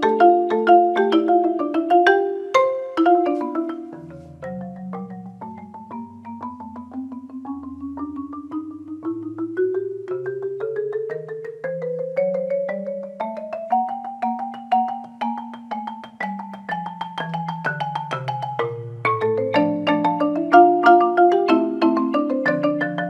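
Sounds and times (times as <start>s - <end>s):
solo marimba: 0.0s - 23.0s.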